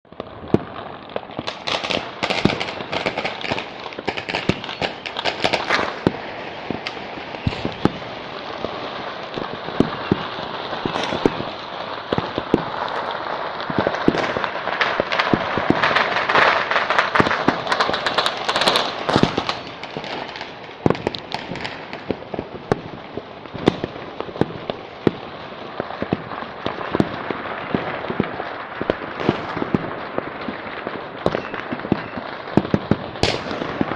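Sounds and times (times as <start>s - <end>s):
firecrackers crackling: 0.1s - 33.9s
firework bangs: 0.1s - 33.9s.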